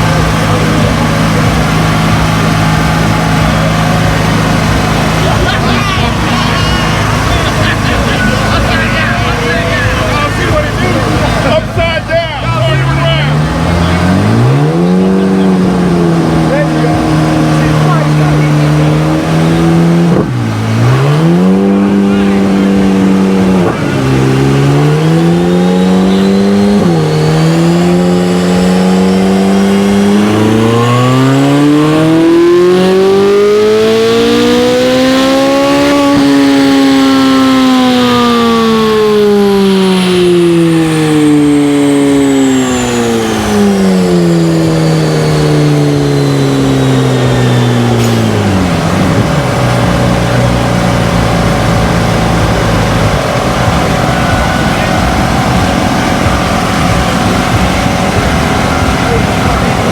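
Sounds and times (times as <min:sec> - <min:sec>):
car engine idling: 0:00.0 - 0:59.9
car engine revving: 0:00.0 - 0:59.9.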